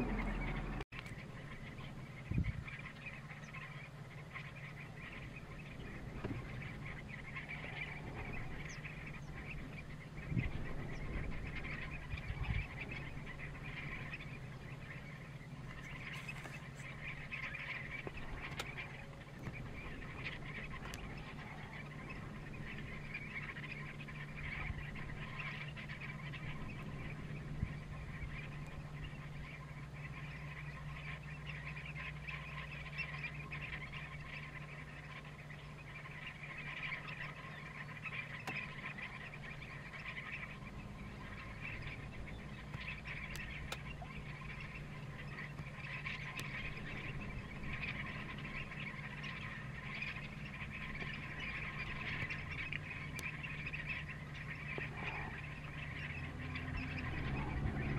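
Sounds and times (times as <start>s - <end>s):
flock of birds calling: 0.0s - 57.9s
steady low hum: 0.0s - 57.9s.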